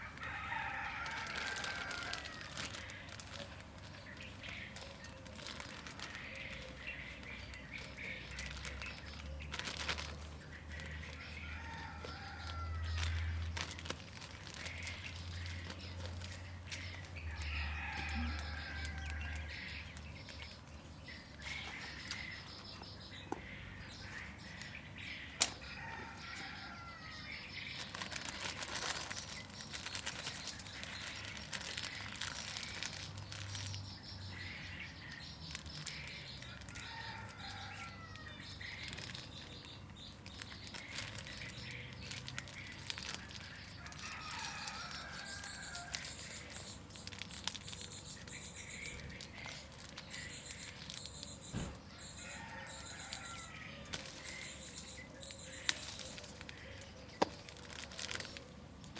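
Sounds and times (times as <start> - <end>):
plastic bag and leaves rustling: 0.0 - 22.6, 25.4 - 58.9
small birds chirping: 0.0 - 58.9.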